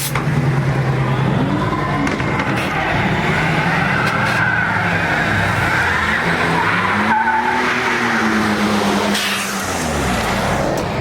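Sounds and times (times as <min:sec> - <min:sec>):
tyres skidding and squealing: 0:00.0 - 0:11.0.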